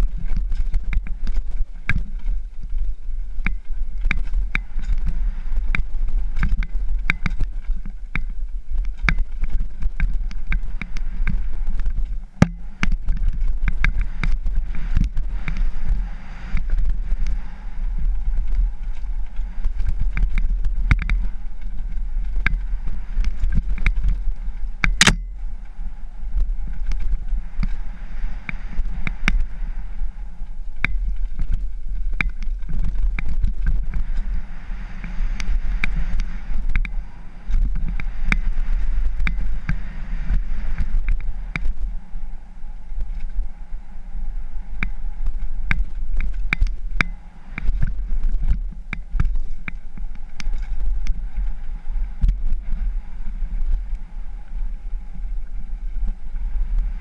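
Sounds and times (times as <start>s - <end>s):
bike clattering and rattling: 0.0s - 57.0s
tyres and wind rumbling: 0.0s - 57.0s.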